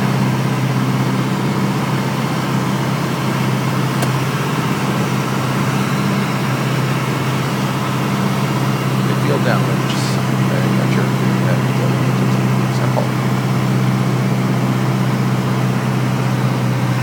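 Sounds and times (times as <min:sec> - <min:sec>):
light airplane engine droning: 0:00.0 - 0:17.0.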